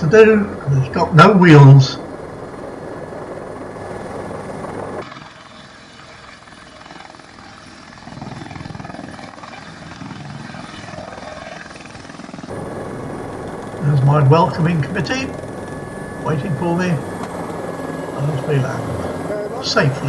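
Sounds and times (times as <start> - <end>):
helicopter rotor and turbine: 0.0 - 20.0.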